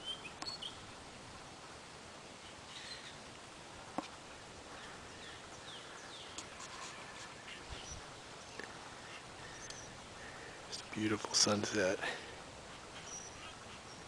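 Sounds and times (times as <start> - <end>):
birds calling faintly: 0.0 - 14.0.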